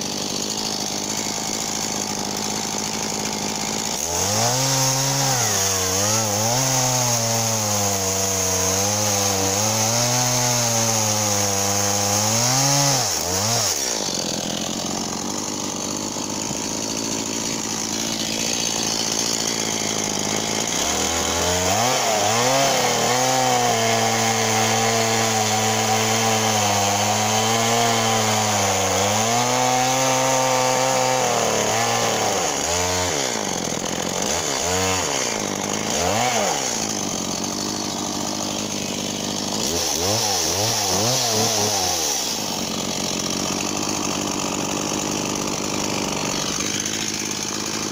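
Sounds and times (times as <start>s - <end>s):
chainsaw running: 0.0s - 47.9s.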